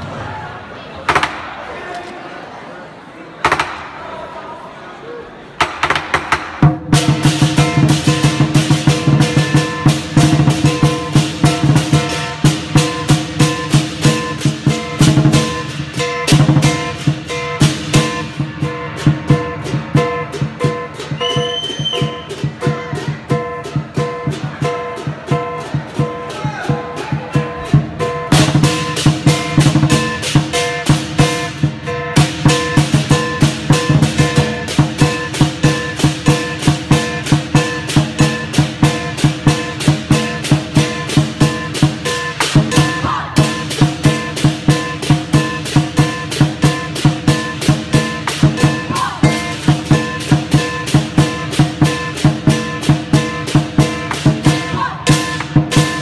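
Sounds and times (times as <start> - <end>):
drum beating: 5.6 - 56.0.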